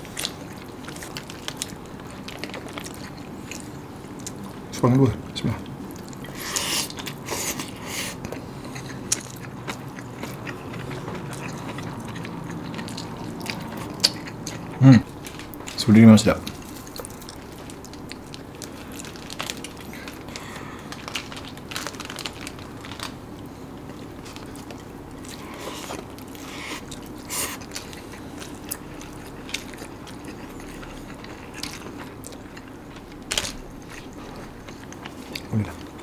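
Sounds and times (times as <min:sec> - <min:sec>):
chewing and crunching: 0:00.0 - 0:04.8, 0:05.4 - 0:36.0.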